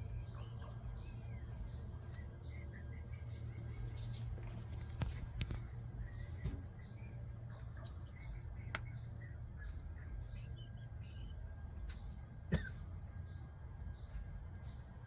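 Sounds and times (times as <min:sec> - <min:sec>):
birds chirping: 0:00.0 - 0:15.0
low steady rumble: 0:00.0 - 0:15.0.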